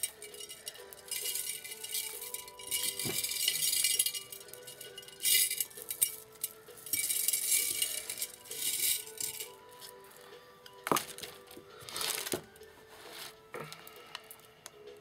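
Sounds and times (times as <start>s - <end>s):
beads rattling in glass jar: 0.0s - 13.3s
faint background music: 0.0s - 15.0s.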